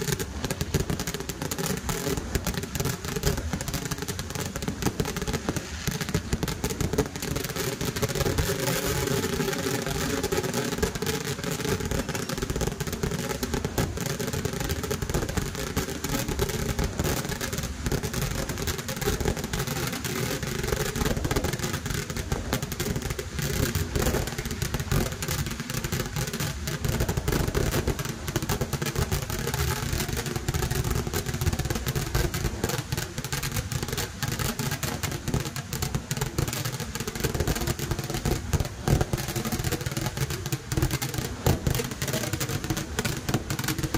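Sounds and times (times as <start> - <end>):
firecrackers banging: 0.0 - 43.9
fireworks explosions: 0.0 - 43.9.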